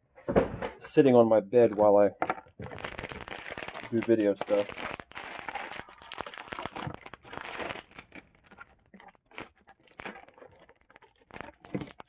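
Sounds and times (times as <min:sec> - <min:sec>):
packaging crinkling and rustling: 0:01.7 - 0:12.0.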